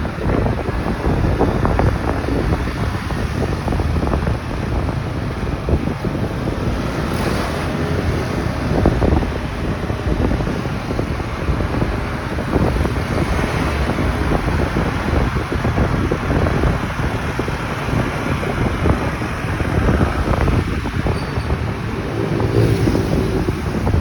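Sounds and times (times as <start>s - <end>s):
motorcycle running: 0.0s - 24.0s
road noise: 0.0s - 24.0s
wind rushing over microphone: 0.0s - 24.0s.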